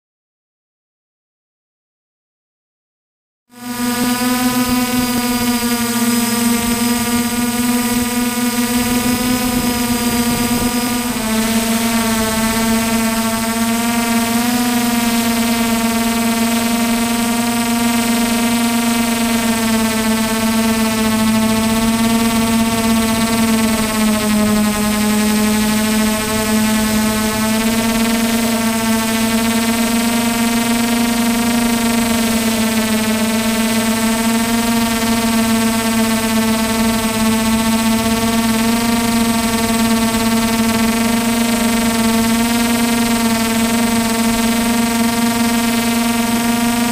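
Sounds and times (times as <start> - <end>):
drone propellers humming: 3.6 - 46.9.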